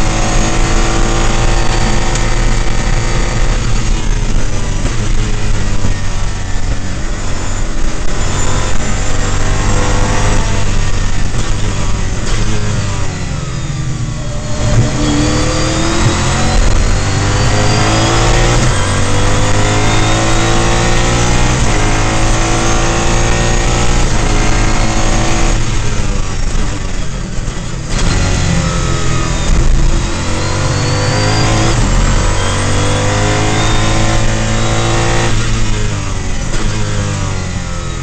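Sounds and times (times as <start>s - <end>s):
race car engine accelerating: 0.0s - 38.0s.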